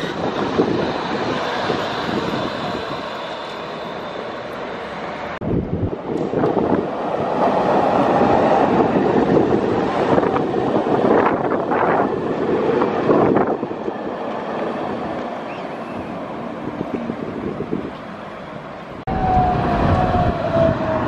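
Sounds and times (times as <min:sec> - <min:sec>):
tram wheels on rails: 0:00.0 - 0:21.0.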